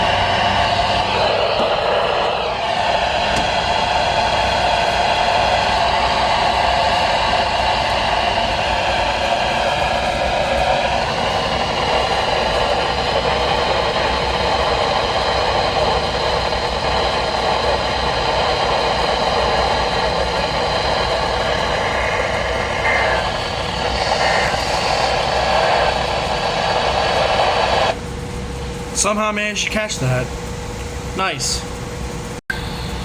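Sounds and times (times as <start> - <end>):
radio static hiss: 0.0 - 28.0, 29.0 - 30.3.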